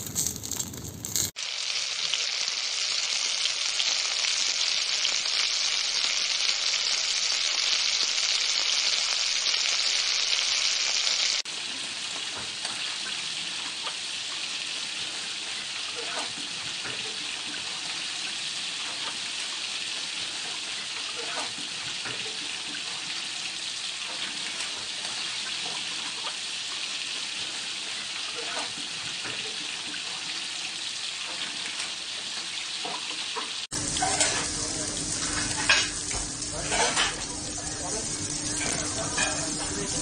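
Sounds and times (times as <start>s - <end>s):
bacon frying crackling: 0.0s - 40.0s
oil sizzling in a frying pan: 0.0s - 40.0s.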